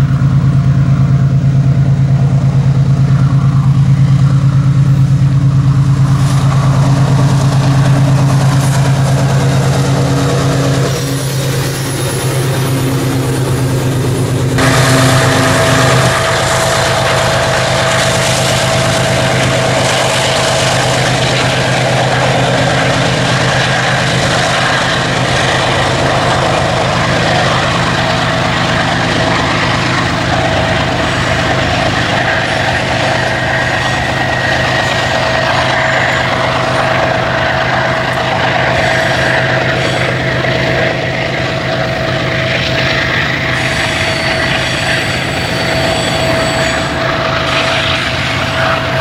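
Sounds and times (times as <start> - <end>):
hopper cars rolling over rails: 0.0 - 49.0
locomotive engine hum: 0.0 - 49.0.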